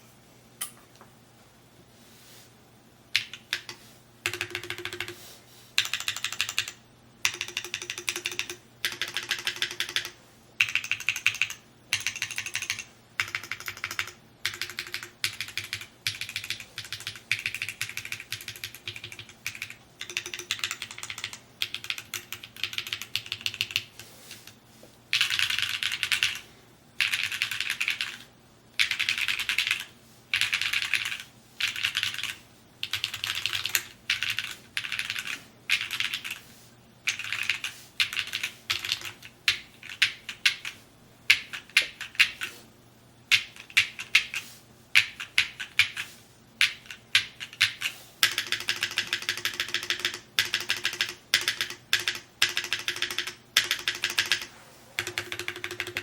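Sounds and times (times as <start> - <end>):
mechanical keyboard typing: 3.1 - 5.2, 5.8 - 24.0, 25.1 - 26.4, 27.0 - 36.4, 37.1 - 42.5, 43.3 - 44.4, 45.0 - 56.0.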